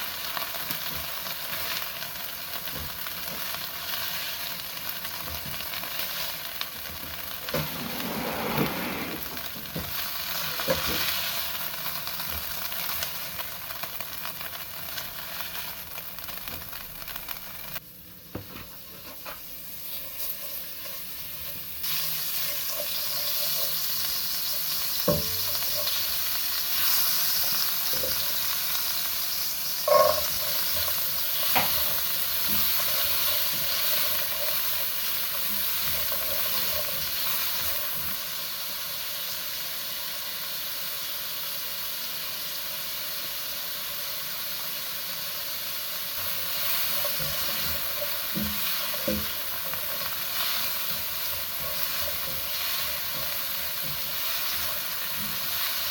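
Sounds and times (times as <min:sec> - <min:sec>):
food sizzling in hot pan: 0:00.0 - 0:55.9.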